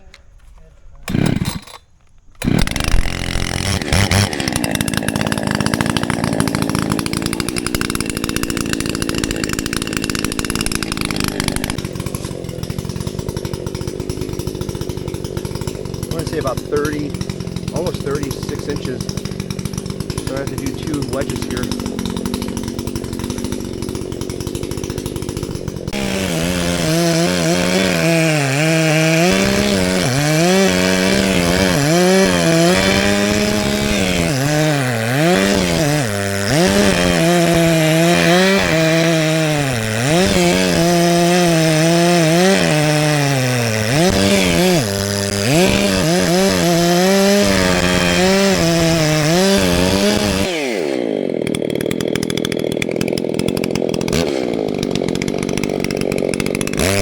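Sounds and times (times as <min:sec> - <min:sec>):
chainsaw cutting tree trunk: 0:00.0 - 0:57.0.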